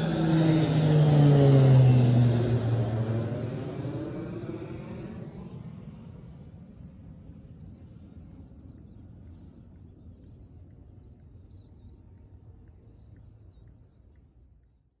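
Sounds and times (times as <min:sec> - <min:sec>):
low rumble: 0:00.0 - 0:14.2.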